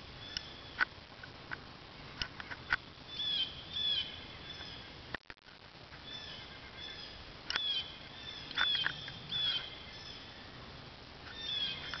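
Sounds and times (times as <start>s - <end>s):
birds calling: 0.0s - 0.9s, 2.2s - 5.0s, 6.0s - 12.0s.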